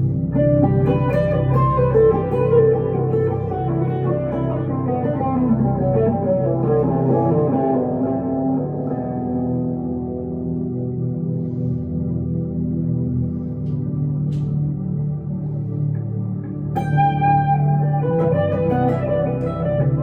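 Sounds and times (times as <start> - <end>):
electric guitar lead melody: 0.0 - 20.0
held low guitar tones: 0.0 - 20.0.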